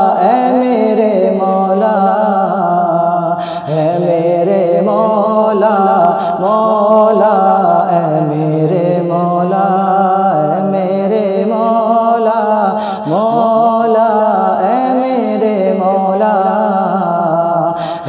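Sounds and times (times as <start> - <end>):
man singing wordless melody: 0.0 - 18.0.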